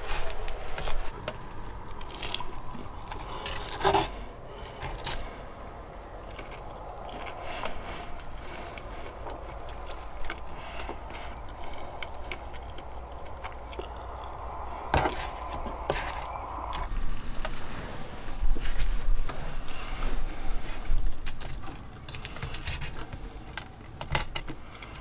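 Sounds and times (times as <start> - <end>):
chewing: 0.0 - 23.7.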